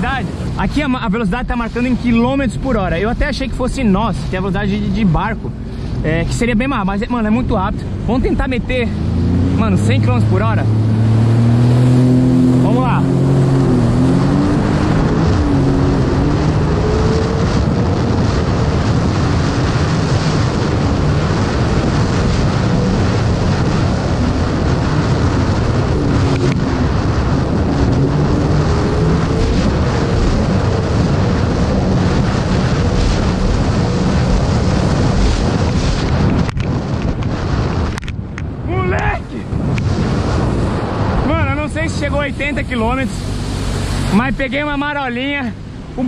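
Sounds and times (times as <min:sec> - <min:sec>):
jet ski engine droning: 0:00.0 - 0:46.0
wind noise on microphone: 0:00.0 - 0:46.0.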